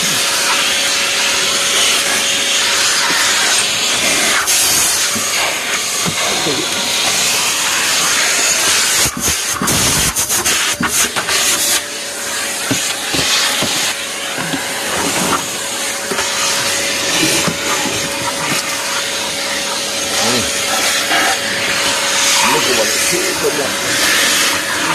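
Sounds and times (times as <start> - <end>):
loud steady hiss: 0.0 - 24.9.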